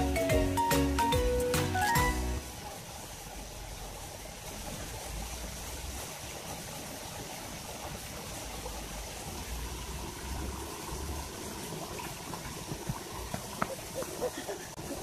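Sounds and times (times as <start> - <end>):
water trickling: 2.4 - 15.0.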